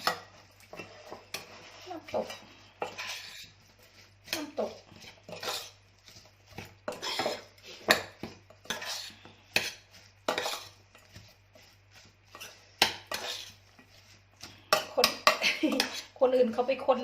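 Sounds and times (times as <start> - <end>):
spoon scraping a bowl: 0.0 - 16.2.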